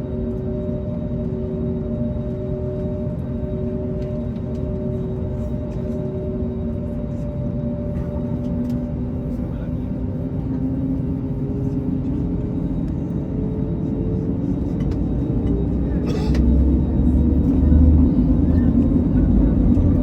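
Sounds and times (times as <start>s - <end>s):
jet engines droning in cabin: 0.0s - 20.0s.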